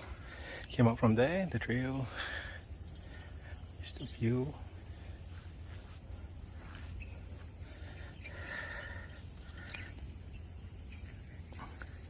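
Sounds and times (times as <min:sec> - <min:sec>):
bird chirps: 0:00.0 - 0:12.0
high-pitched insect drone: 0:00.0 - 0:12.0.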